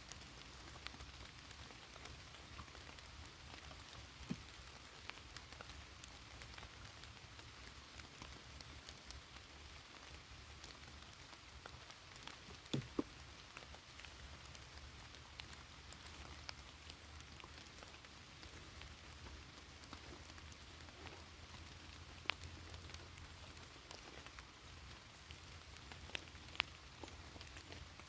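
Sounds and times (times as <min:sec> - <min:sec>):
light rain falling: 0:00.0 - 0:28.0.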